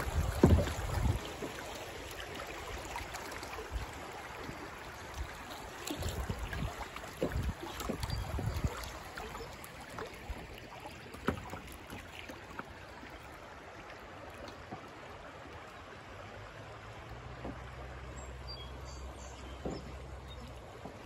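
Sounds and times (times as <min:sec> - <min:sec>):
river water rippling: 0:00.0 - 0:21.0.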